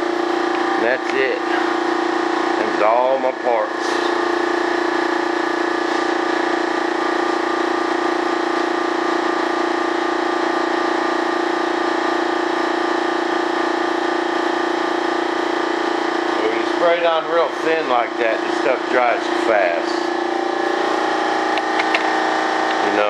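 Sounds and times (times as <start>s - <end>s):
spray rig motor whine: 0.0s - 23.0s.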